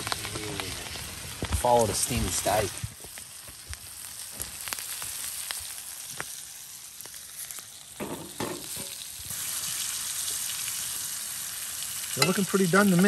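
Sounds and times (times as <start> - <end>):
steaks sizzling in butter: 0.0 - 13.0.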